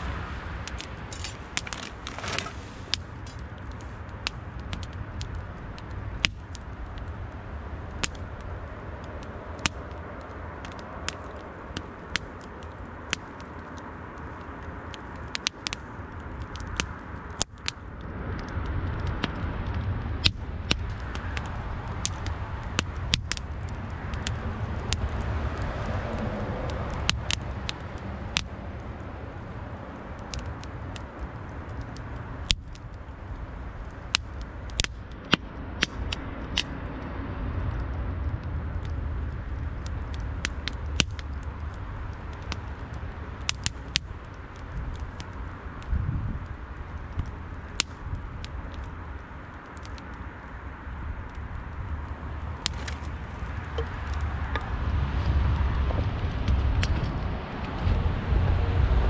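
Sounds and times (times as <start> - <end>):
low fire rumble: 0.0 - 59.0
wood fire crackling and popping: 0.0 - 59.0.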